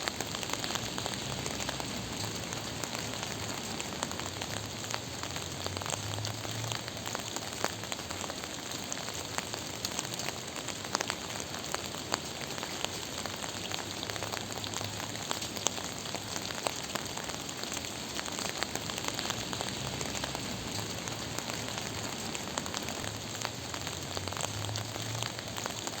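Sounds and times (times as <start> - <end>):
gentle rain pattering: 0.0 - 26.0.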